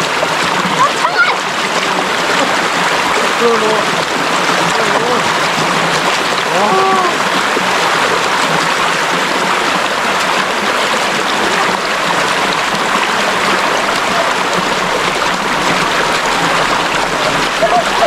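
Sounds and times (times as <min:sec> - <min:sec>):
stream flowing water: 0:00.0 - 0:18.0.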